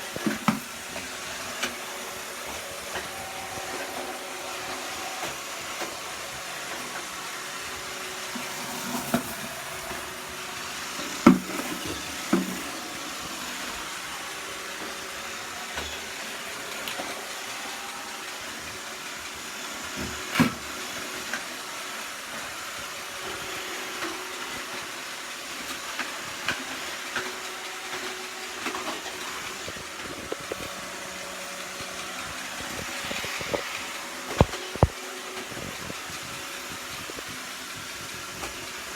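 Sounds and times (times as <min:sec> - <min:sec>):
robotic vacuum running: 0:00.0 - 0:38.9.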